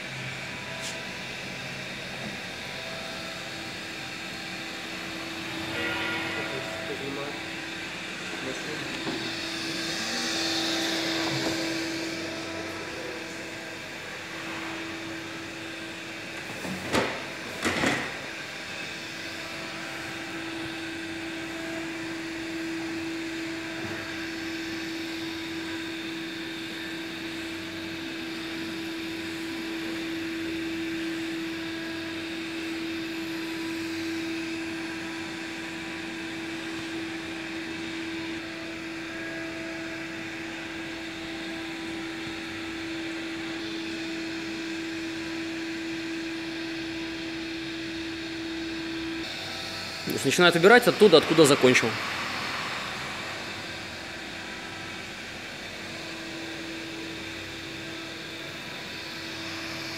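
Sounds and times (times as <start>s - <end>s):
robot vacuum cleaner running: 0.0s - 59.9s.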